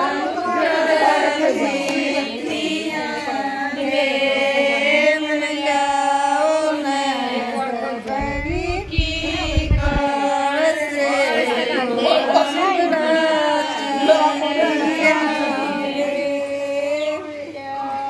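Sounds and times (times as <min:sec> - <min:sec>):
voices singing slow chant: 0:00.0 - 0:18.0.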